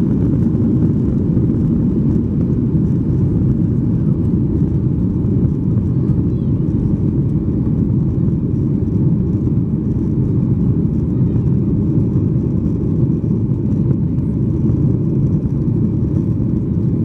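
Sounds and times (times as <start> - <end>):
airplane cabin rumble: 0.0 - 17.0.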